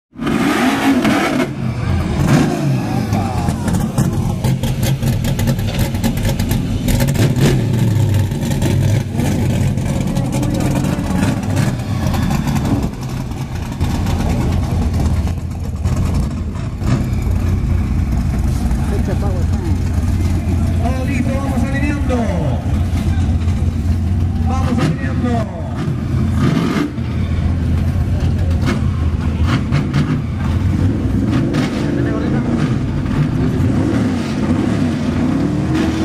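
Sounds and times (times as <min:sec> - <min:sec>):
race car engines revving: 0:00.1 - 0:36.0.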